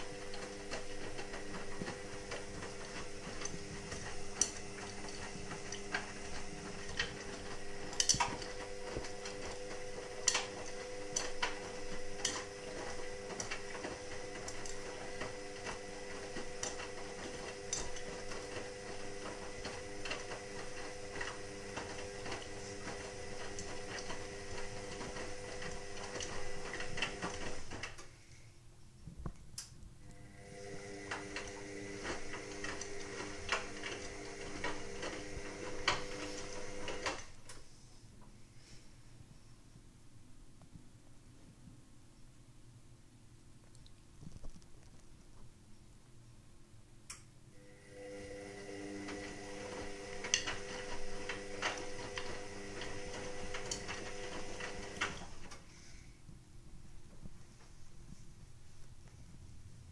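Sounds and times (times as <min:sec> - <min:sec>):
washing machine hum: 0:00.0 - 0:28.3, 0:29.9 - 0:38.3, 0:47.5 - 0:59.9.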